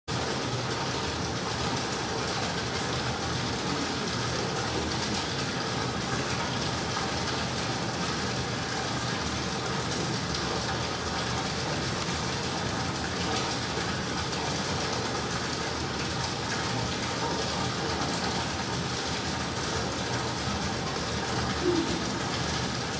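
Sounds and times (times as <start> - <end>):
low mechanical hum: 0.2 - 22.9.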